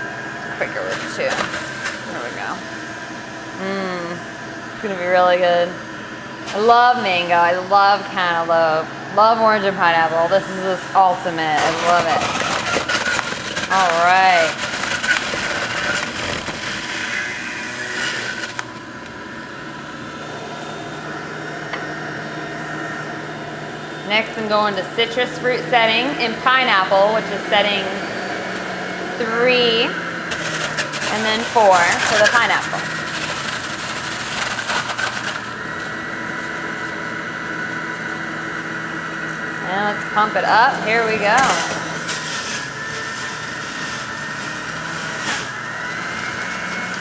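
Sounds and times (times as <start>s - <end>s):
juicer grinding fruit: 0.0s - 47.0s
juicer motor humming: 0.0s - 47.0s.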